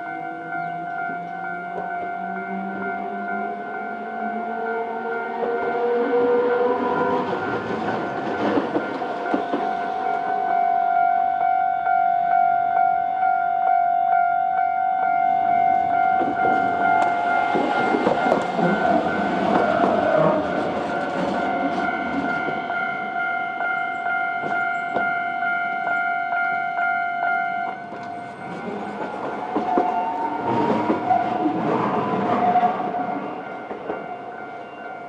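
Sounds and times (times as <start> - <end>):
tram rumbling on rails: 0.0 - 13.2, 14.1 - 35.0
crossing warning bell ringing: 0.0 - 35.0.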